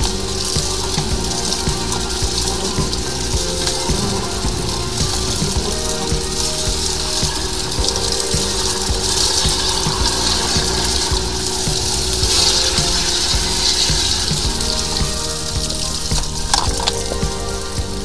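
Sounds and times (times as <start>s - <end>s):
drain jetter machine hum: 0.0s - 18.0s
hiss of spraying water: 0.0s - 18.0s.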